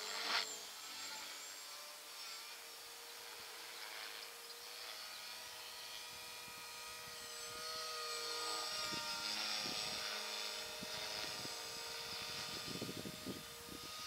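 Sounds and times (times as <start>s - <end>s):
rc helicopter whine: 0.0s - 14.0s.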